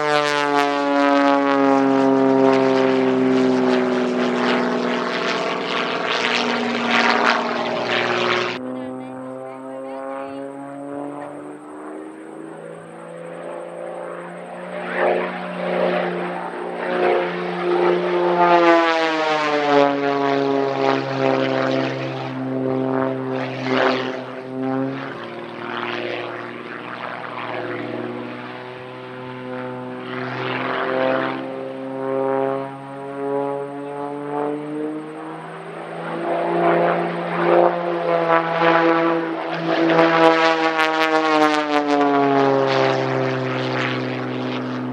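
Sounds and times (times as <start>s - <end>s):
biplane engine and propeller: 0.0s - 44.9s.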